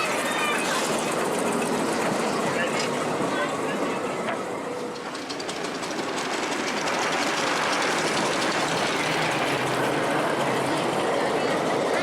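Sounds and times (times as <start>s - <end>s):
miniature train rolling: 0.0s - 12.0s
wheels clattering over rails: 0.1s - 12.0s.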